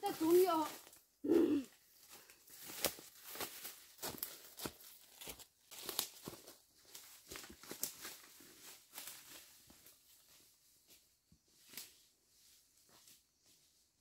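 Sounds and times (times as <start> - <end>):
footsteps crunching on dry leaves: 0.0 - 1.0, 1.8 - 13.7.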